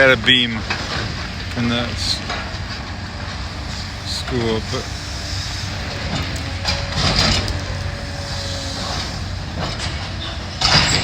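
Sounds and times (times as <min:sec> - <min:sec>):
demolition machine engine running: 0:00.0 - 0:11.0.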